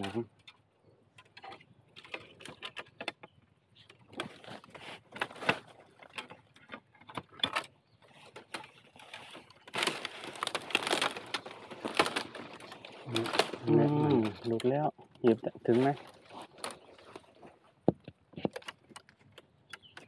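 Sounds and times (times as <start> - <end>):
scraping and rustling: 0.0 - 19.5
tool prying and scraping bamboo: 0.0 - 20.0.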